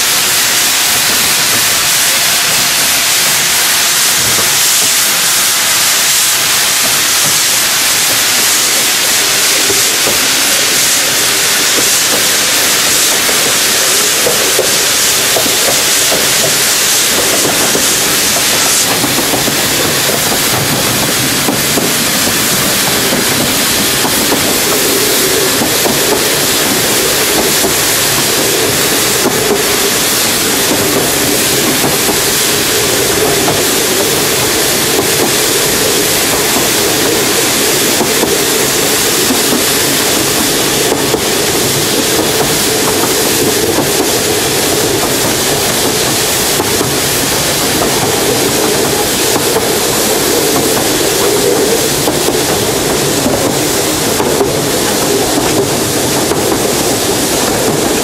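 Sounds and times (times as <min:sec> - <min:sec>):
steam engine working: 0:00.0 - 0:58.0
steam hissing: 0:00.0 - 0:58.0
wheels on track: 0:06.4 - 0:58.0.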